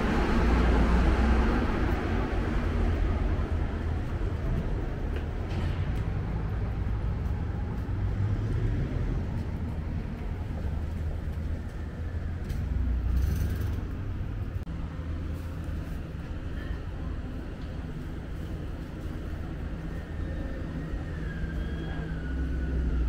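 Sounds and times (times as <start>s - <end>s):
road vehicles and buses rumbling: 0.0s - 23.0s.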